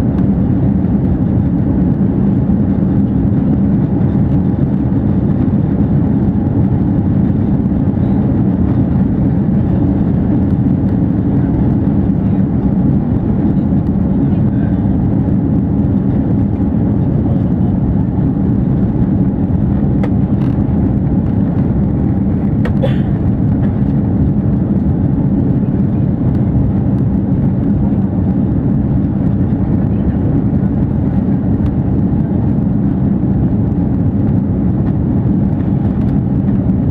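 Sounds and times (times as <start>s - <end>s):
jet engines droning: 0.0s - 36.9s.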